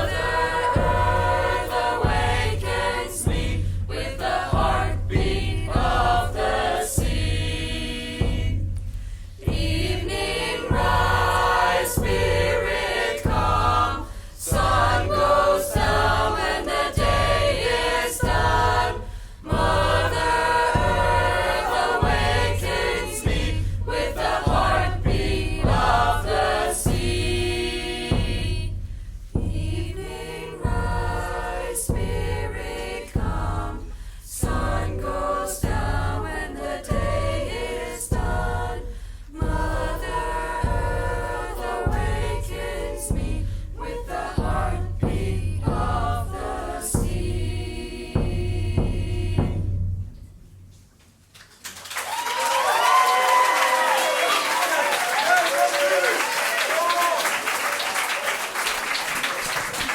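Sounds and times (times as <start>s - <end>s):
choir singing a chant-like song: 0.0s - 50.1s.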